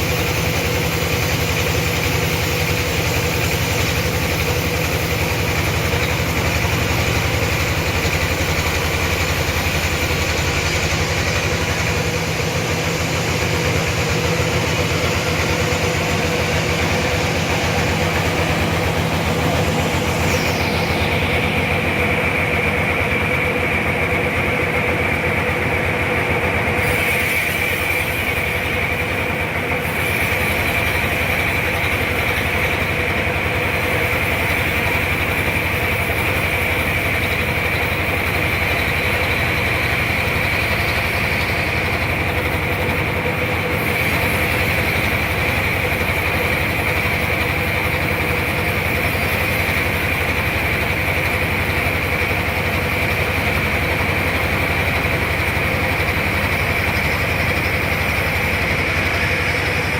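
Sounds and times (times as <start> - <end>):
high machine whine: 0.0 - 59.9
sawmill engine drone: 0.0 - 59.9.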